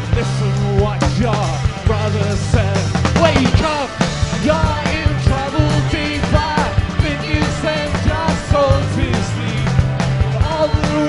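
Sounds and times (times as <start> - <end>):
bass: 0.0 - 11.0
drums beating: 0.0 - 11.0
electric guitars: 0.0 - 11.0.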